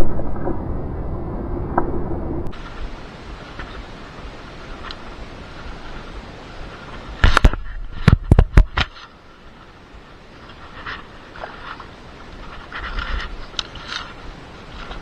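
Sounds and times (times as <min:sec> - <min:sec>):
scraping and rustling: 0:02.5 - 0:15.0.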